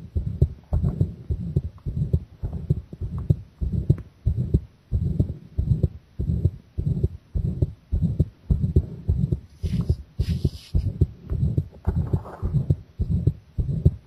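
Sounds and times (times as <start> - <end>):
fast heartbeat thuds: 0.0 - 14.0.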